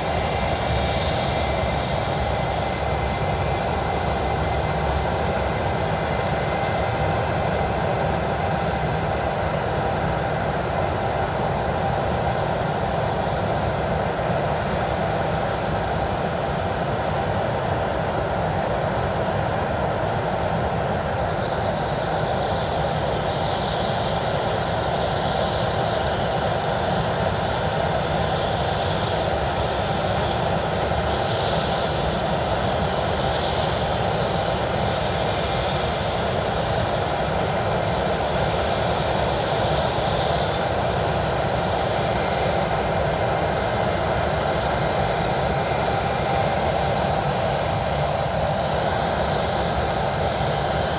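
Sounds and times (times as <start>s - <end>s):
jet engines running: 0.0s - 50.9s
thin steady whine: 0.0s - 50.9s.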